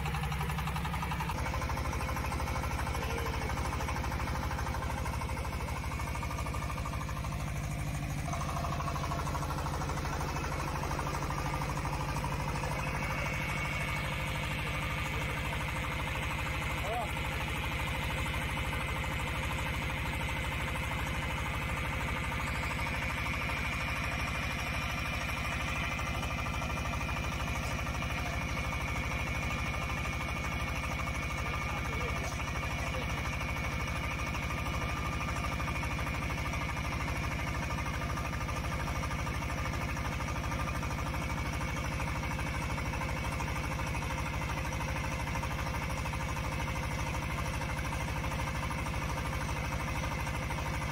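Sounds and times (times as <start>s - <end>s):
drilling rig engine under load: 0.0s - 50.9s.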